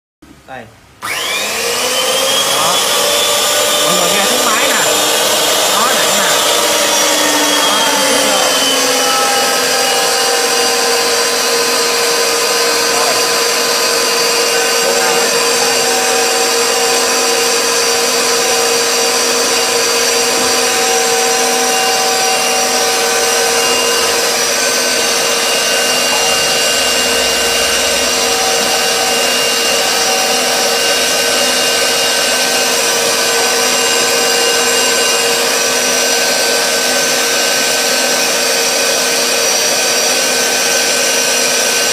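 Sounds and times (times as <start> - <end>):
threading machine motor whine: 1.0 - 41.9.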